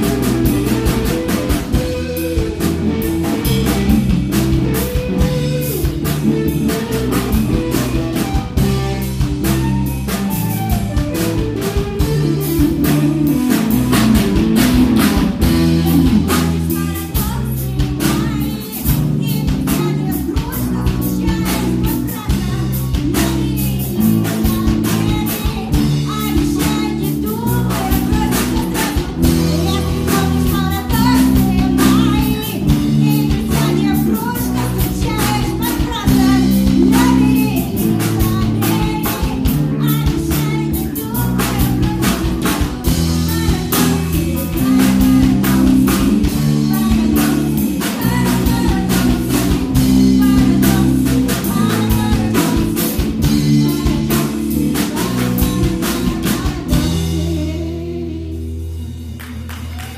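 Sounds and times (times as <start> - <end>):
live rock band playing: 0.0 - 59.9
woman singing: 0.0 - 59.9.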